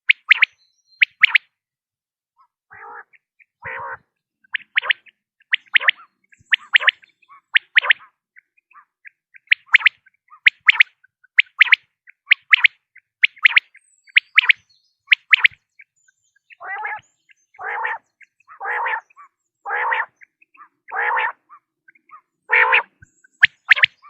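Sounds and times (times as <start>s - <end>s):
quail sharp high calls: 0.0s - 1.5s, 2.4s - 24.0s
quail lower harsh calls: 2.7s - 15.6s, 16.5s - 17.0s, 17.6s - 24.0s.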